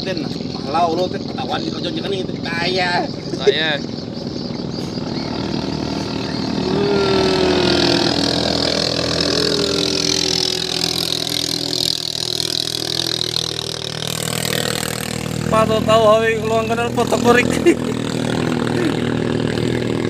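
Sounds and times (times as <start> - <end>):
boat engine running hard: 0.0 - 20.0.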